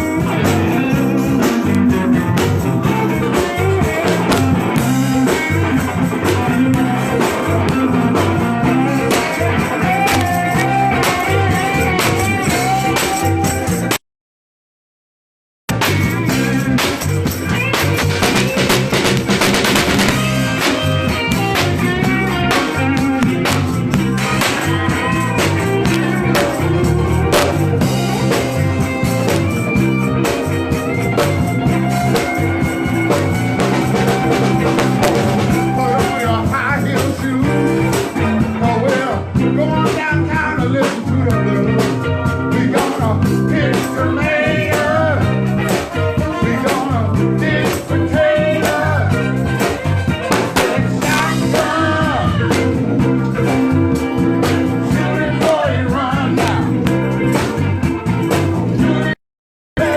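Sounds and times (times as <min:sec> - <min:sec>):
blues-rock band playing: 0:00.0 - 0:14.0, 0:15.7 - 0:59.2
wavering lead guitar line: 0:00.0 - 0:14.0, 0:15.7 - 0:59.2.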